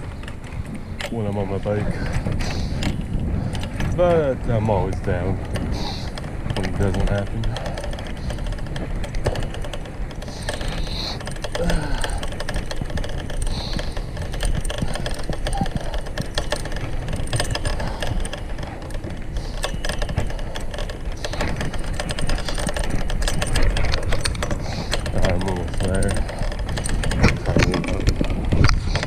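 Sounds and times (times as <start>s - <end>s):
bicycle clicks and rattles: 0.0s - 29.0s
wind and road rumble: 0.0s - 29.0s.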